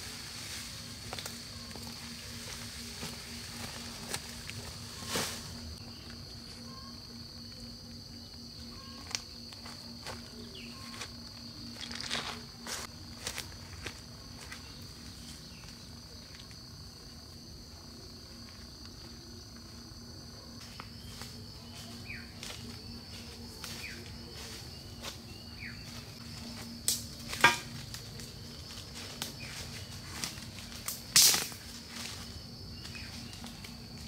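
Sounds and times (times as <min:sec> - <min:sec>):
forest insects droning: 0:00.0 - 0:34.0.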